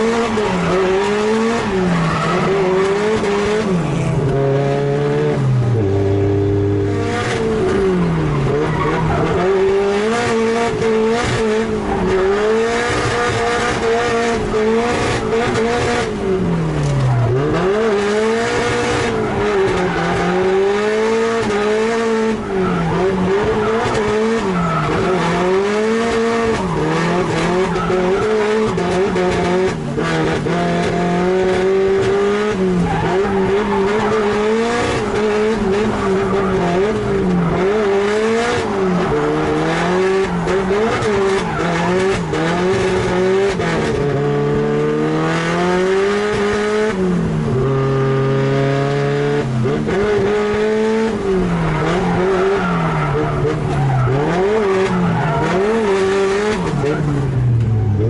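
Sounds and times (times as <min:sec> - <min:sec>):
tyres squealing and skidding: 0:00.0 - 0:04.3, 0:07.3 - 0:16.1, 0:16.8 - 0:30.3, 0:31.8 - 0:43.8, 0:50.2 - 0:58.0
car engine revving: 0:00.0 - 0:58.0.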